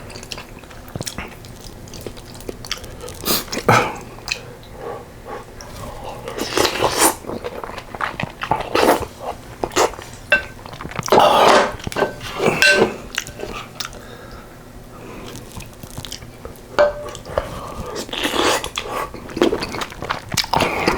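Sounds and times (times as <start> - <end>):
person chewing: 0.1 - 14.2, 15.2 - 20.9.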